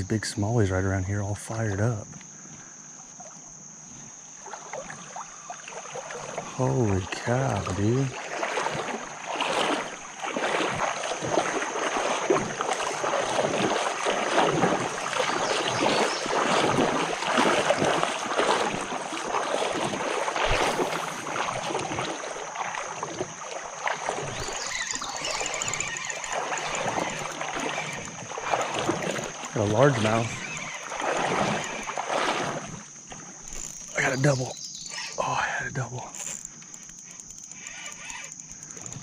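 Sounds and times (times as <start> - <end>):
water splashing from a hooked fish: 4.4 - 35.2, 36.1 - 39.0.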